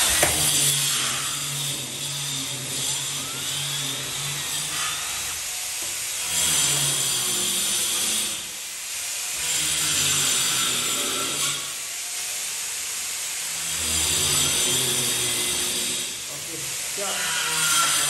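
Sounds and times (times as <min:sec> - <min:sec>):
electric power tool running: 0:00.0 - 0:18.0.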